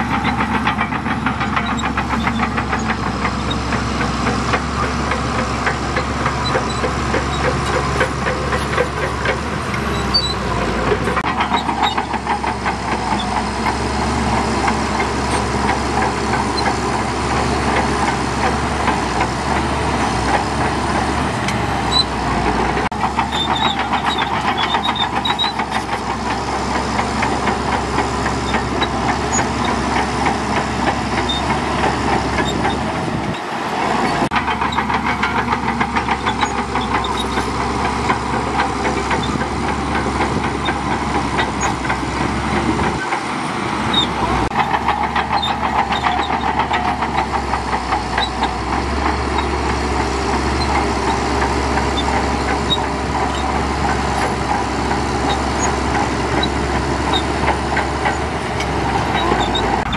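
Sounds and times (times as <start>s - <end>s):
bulldozer diesel engine working: 0.0s - 59.9s.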